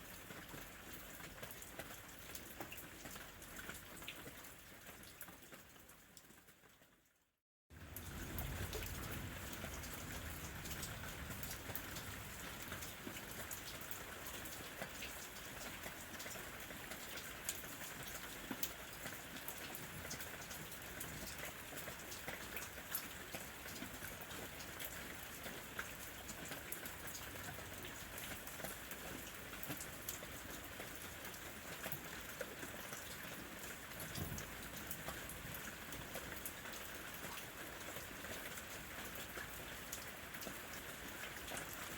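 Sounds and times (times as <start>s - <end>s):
rain pattering on hard surface: 0.0s - 41.9s.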